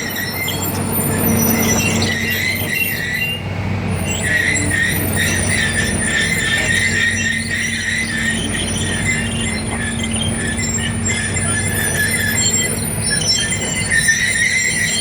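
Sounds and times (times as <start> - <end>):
diesel machinery engine hum: 0.0 - 15.0
high-pitched metallic squeal: 0.0 - 15.0.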